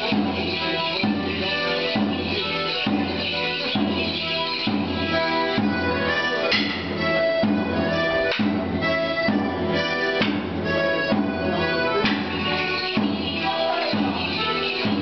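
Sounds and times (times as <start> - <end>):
accordion playing folk dance tune: 0.0 - 15.0
drum steady beat: 0.0 - 15.0.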